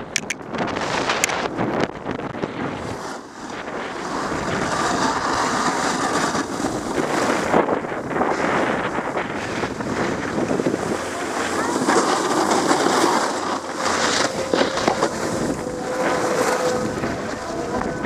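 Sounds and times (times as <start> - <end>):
wind buffeting microphone: 0.0 - 18.0
snowboard edge scraping snow: 0.6 - 18.0.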